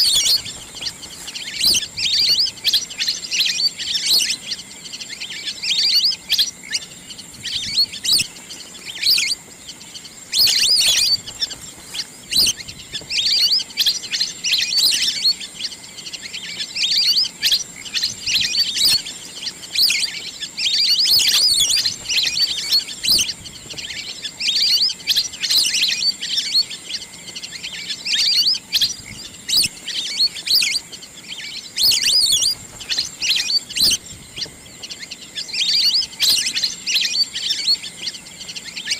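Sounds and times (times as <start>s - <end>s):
duck chirps and whistles: 0.0s - 9.4s, 10.0s - 19.1s, 19.7s - 26.8s, 27.8s - 38.0s.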